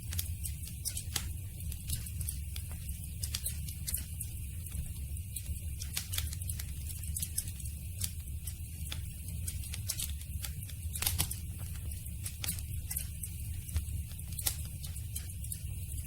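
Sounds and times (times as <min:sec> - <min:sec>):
campfire wood crackling and popping: 0:00.0 - 0:16.0
low rumble of flames: 0:00.0 - 0:16.0.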